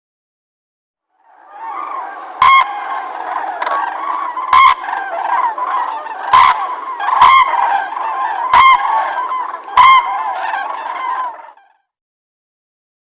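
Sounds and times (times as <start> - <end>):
flock of birds chattering: 1.2 - 11.7
loud sharp bird calls: 1.2 - 11.7.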